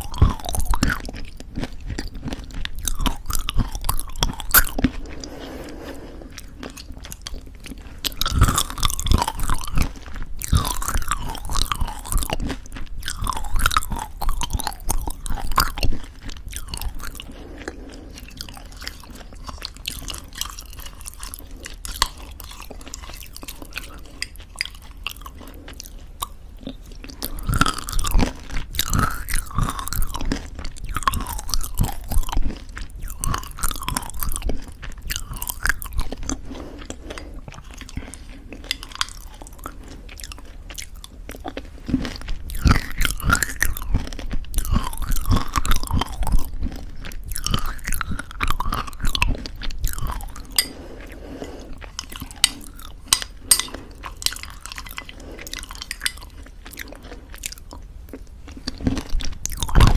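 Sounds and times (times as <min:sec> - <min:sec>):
wet mouth sounds: 0:00.0 - 0:41.6, 0:42.2 - 0:59.9
crunchy chewing: 0:00.0 - 0:59.9.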